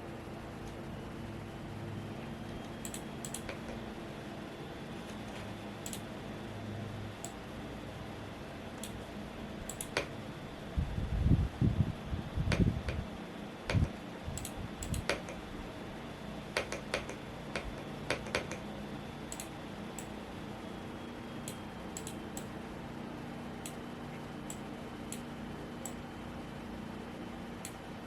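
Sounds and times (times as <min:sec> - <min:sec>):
fan humming: 0:00.0 - 0:28.0.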